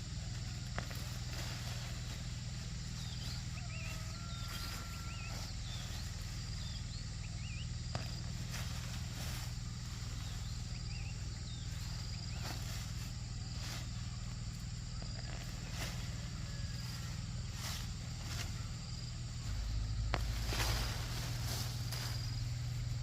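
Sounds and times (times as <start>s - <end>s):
low hum and hiss: 0.0s - 23.0s
small birds chirping: 0.0s - 23.0s.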